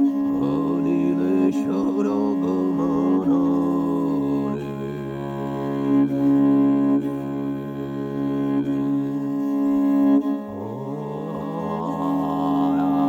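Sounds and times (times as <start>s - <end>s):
throat singing drone: 0.3s - 13.0s.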